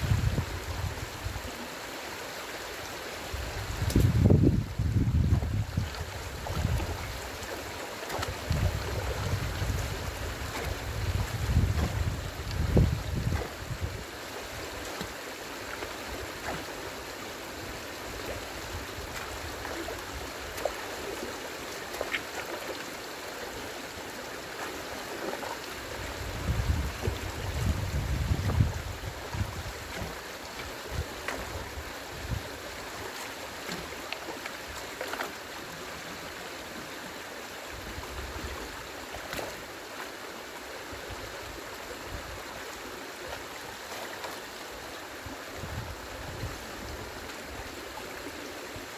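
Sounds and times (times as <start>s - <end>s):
stream water running: 0.0s - 48.9s.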